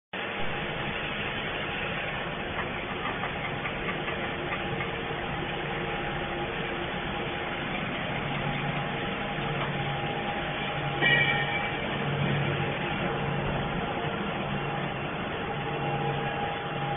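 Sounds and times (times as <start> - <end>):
production line machines humming: 0.2 - 16.9.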